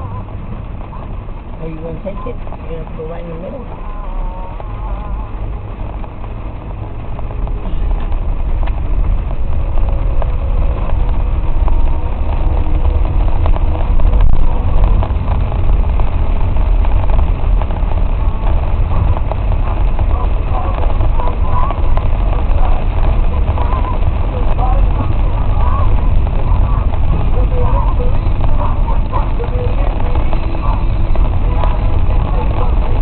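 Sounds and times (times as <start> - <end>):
engine and water rumble: 0.0 - 33.0.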